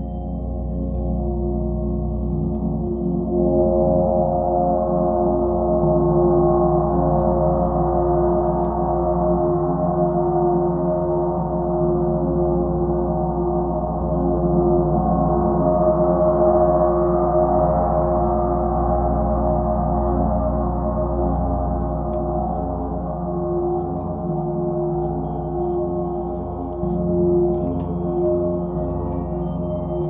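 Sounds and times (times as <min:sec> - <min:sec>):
gong soft roll: 0:00.0 - 0:30.0.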